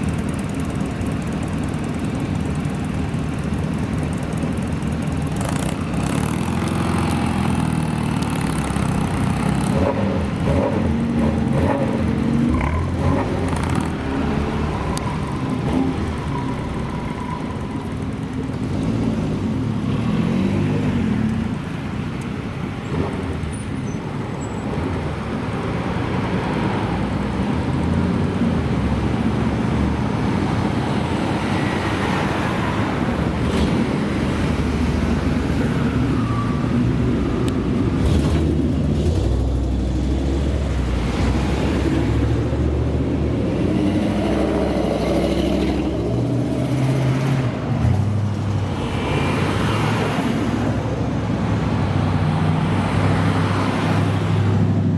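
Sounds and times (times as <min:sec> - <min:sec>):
car engines driving past: 0:04.7 - 0:54.9.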